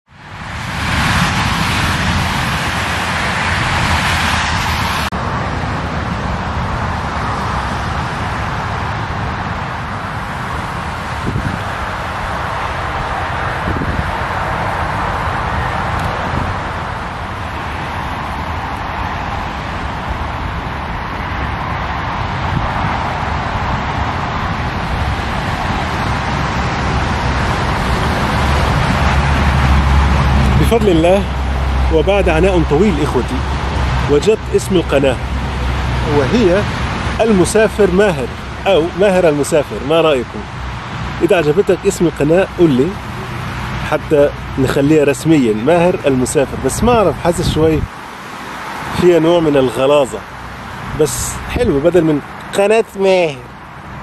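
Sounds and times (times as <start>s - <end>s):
motorway traffic passing: 0.1s - 54.0s.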